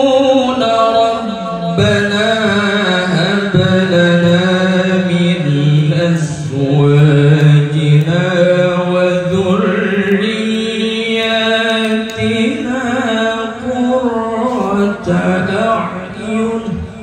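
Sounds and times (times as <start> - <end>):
man reciting melodically into microphone: 0.0 - 17.0.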